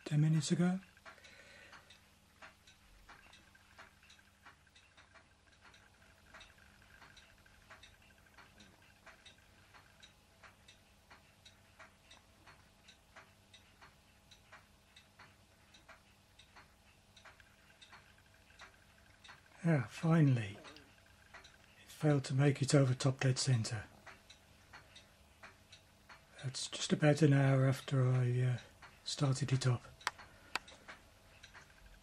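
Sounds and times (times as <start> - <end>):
faint ticking: 0.0 - 32.0
low steady hum: 0.0 - 32.0.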